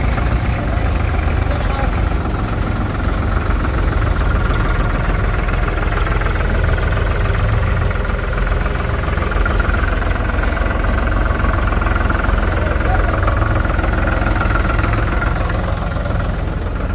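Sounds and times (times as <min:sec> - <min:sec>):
diesel engine idling: 0:00.0 - 0:16.9.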